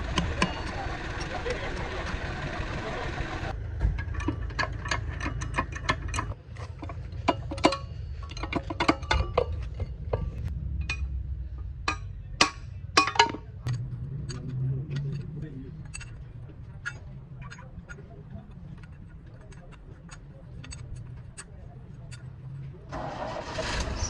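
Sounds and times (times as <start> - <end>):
low steady hum: 0.0 - 23.4.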